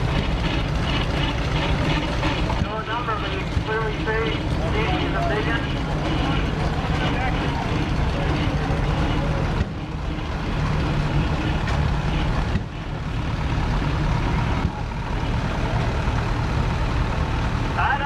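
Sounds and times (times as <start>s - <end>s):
tractor engines chugging: 0.0s - 18.0s.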